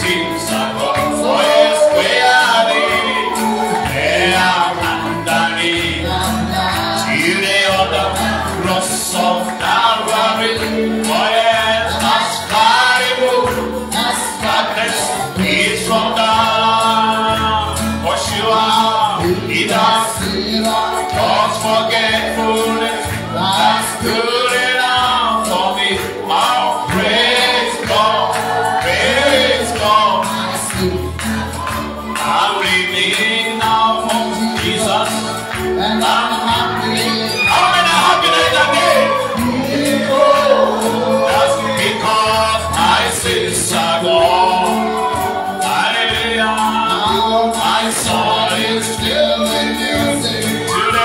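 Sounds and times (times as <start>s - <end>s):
voices singing gospel song: 0.0s - 51.0s.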